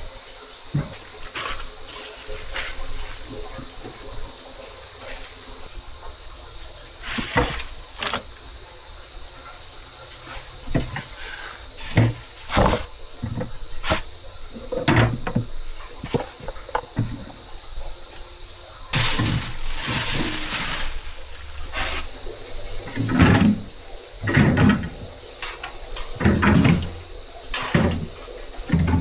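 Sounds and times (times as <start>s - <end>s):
objects knocking and clattering: 0.7s - 5.8s, 7.0s - 8.4s, 9.4s - 17.4s, 19.0s - 29.0s.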